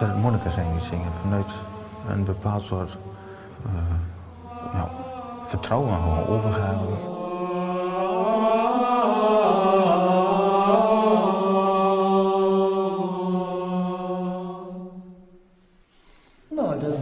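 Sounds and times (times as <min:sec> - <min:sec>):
men singing chant in unison: 0:00.0 - 0:15.3.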